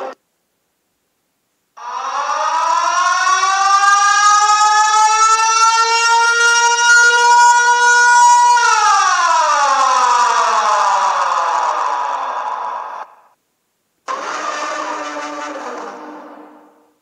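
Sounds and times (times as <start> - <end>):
air-raid siren wailing: 1.8 - 13.2, 14.1 - 16.6.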